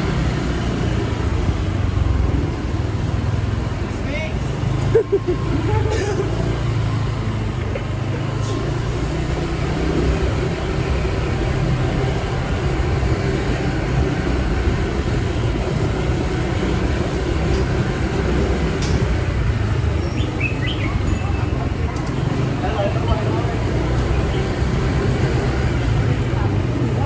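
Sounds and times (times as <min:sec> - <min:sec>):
motorbike engine: 0:00.0 - 0:27.0.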